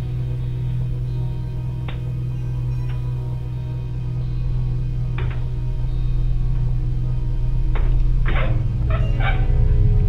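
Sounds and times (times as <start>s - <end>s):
background music with low drone: 0.0s - 10.0s.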